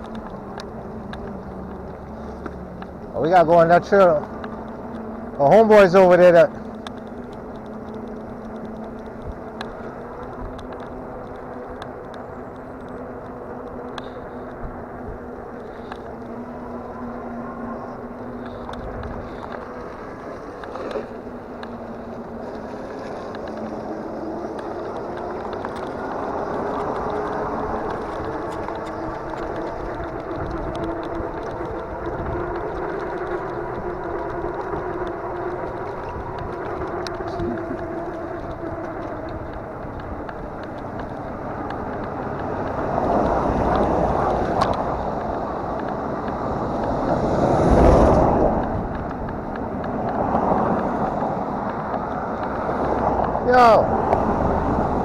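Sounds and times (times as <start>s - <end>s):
bike rolling noise: 0.0s - 55.0s
tyre and wind noise: 0.0s - 55.0s.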